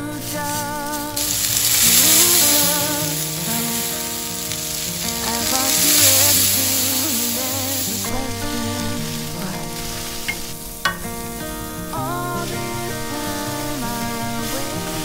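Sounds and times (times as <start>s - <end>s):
beef patties sizzling on griddle: 0.0s - 15.0s.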